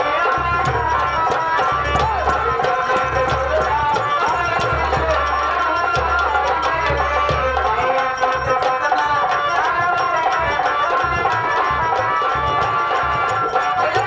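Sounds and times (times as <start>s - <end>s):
hand drums fast beat: 0.0s - 14.0s.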